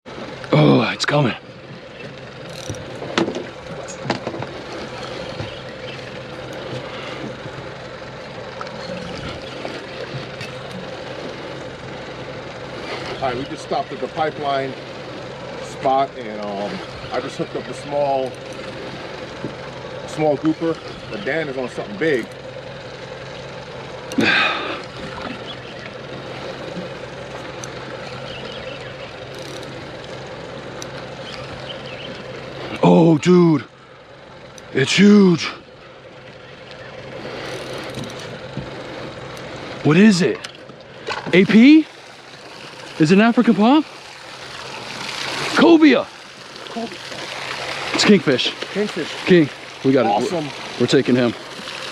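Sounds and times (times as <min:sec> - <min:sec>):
boat engine idling: 0:00.0 - 0:51.9
water noise: 0:00.0 - 0:51.9.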